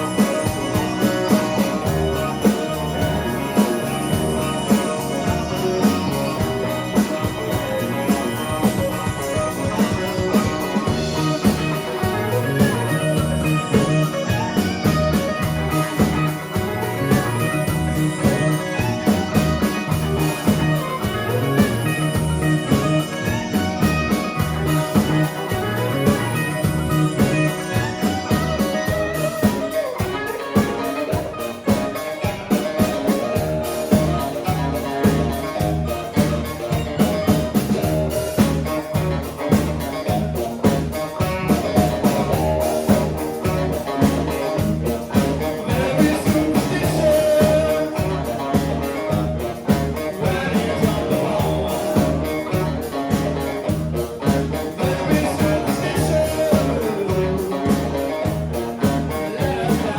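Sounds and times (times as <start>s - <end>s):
guitar: 0.0s - 59.9s
rock band playing: 0.0s - 59.9s
steady drum beat: 0.0s - 59.9s.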